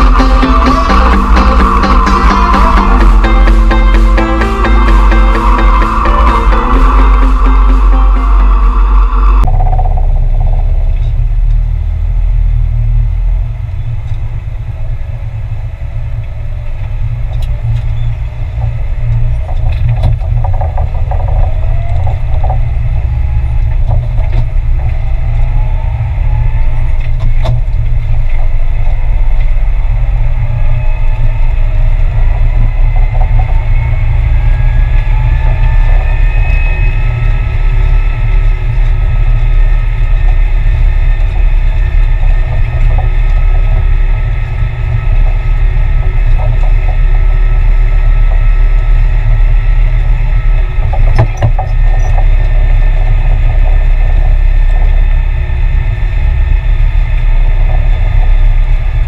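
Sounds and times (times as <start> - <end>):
engine knocks: 0.0 - 59.0
rising whine: 0.0 - 59.0
tractor diesel engine rumbling: 0.0 - 59.0.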